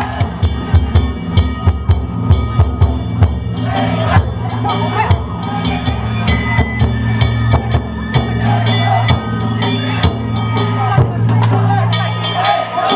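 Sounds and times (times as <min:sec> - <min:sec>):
taiko drums beating: 0:00.0 - 0:12.9.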